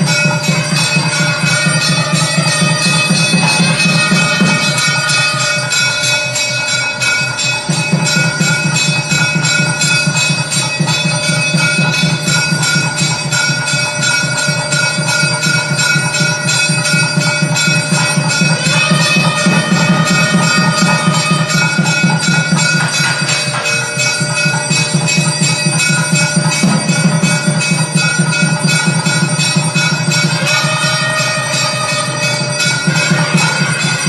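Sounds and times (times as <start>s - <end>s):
temple bells clanging: 0.0s - 34.0s.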